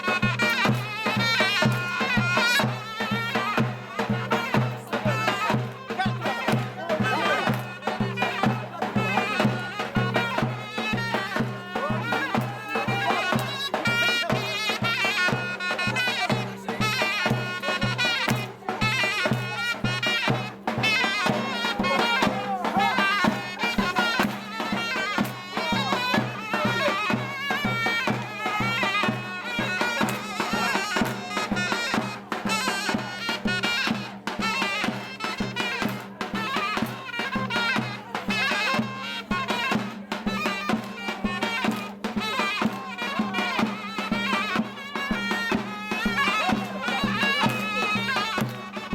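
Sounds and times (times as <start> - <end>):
shrill reed pipe melody: 0.0 - 48.9
steady drum beat: 0.0 - 48.9.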